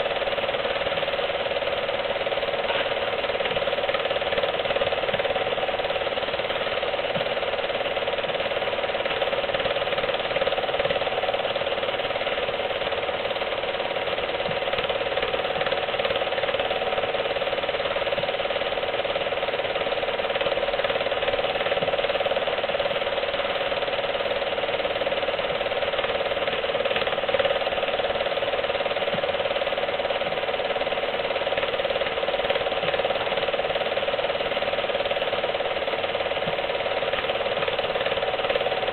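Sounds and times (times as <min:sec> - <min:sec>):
film projector clattering: 0:00.0 - 0:38.9.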